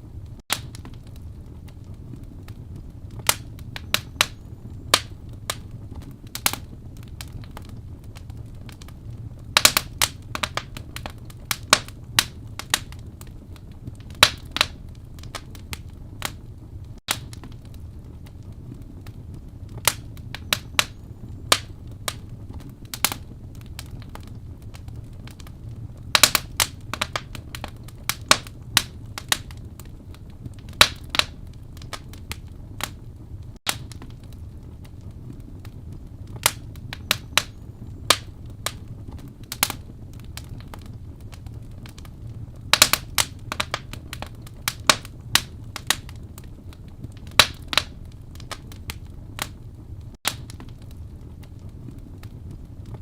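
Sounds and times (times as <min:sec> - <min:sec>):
low rumble of flames: 0:00.0 - 0:53.0
wood crackling and popping: 0:00.0 - 0:53.0.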